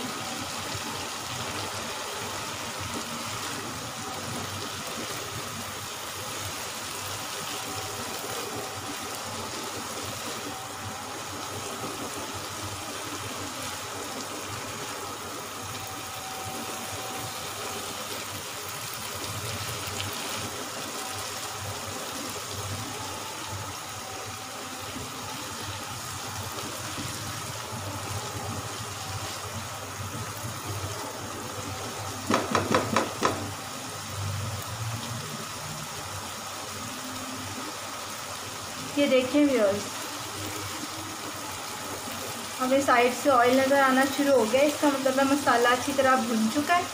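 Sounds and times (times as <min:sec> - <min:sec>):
food sizzling in oil: 0:00.0 - 0:46.9.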